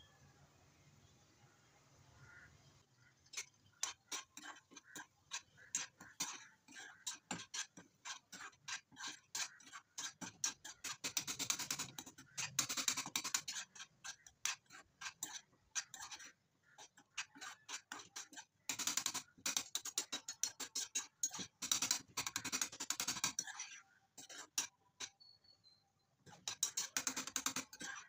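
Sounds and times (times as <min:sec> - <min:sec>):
spatula scraping frying pan: 0:02.3 - 0:25.0, 0:26.3 - 0:28.0.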